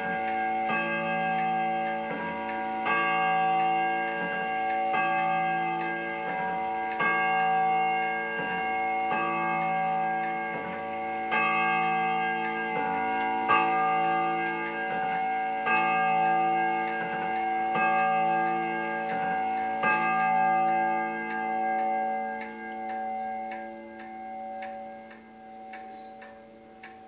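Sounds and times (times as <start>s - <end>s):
clock gong striking: 0.0s - 27.0s.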